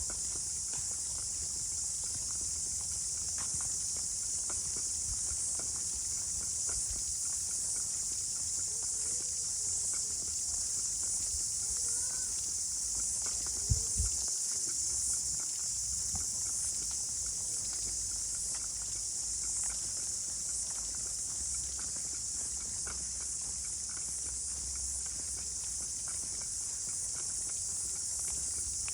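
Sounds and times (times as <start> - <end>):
insects chorus: 0.0 - 28.9.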